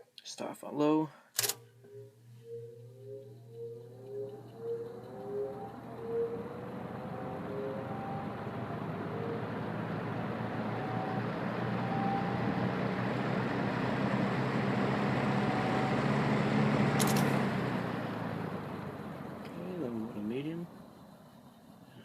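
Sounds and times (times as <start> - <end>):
box fan running: 1.5 - 22.0.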